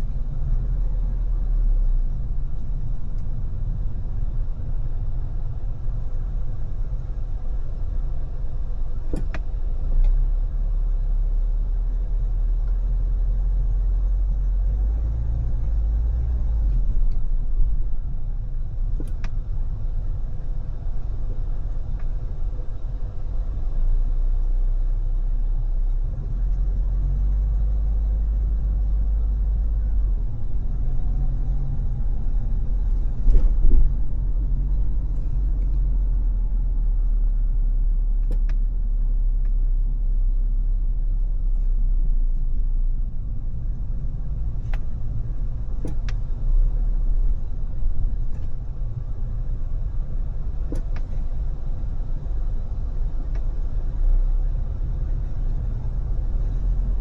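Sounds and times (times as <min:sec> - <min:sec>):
tyre and road noise: 0:00.0 - 0:57.0
wind: 0:00.0 - 0:57.0.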